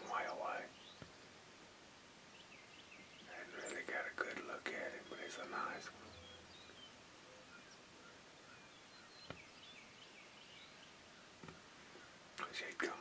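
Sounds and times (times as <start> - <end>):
faint bird chirps: 0.0 - 1.4, 2.2 - 13.0.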